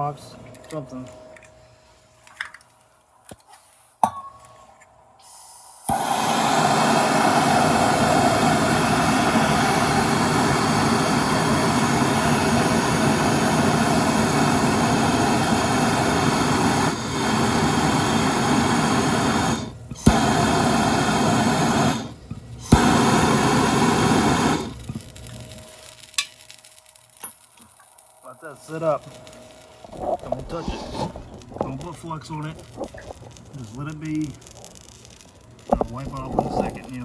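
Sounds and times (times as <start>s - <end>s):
torch flame blowing: 5.2s - 26.4s, 28.3s - 37.0s.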